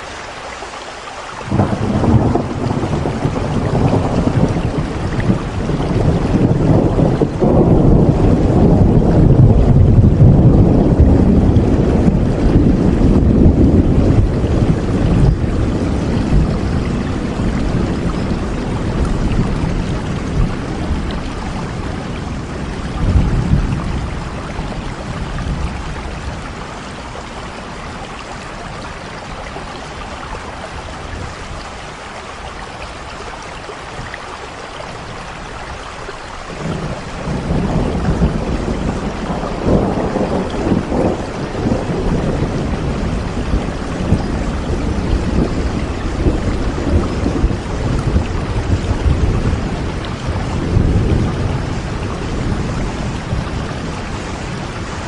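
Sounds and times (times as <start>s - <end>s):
steady rainfall: 0.0s - 55.0s
low rumble of thunder: 1.5s - 32.8s, 34.8s - 55.0s.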